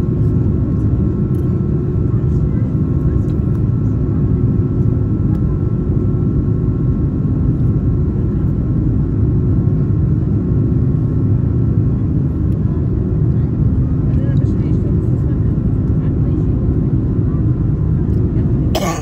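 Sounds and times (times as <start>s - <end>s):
airliner engines in cabin: 0.0s - 19.0s.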